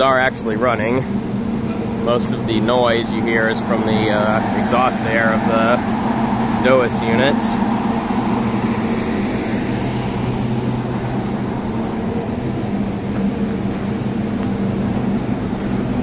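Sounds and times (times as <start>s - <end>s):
exhaust fans running: 0.0s - 16.0s.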